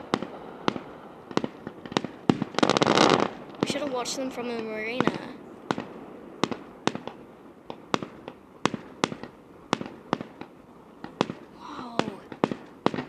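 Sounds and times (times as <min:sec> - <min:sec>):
distant fireworks pops and bangs: 0:00.0 - 0:13.0.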